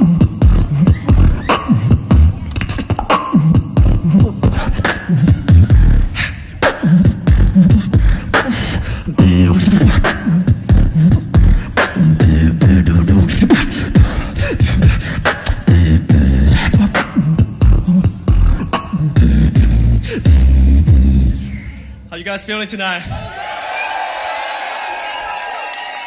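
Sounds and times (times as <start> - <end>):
beatboxing into a microphone: 0.0 - 22.1.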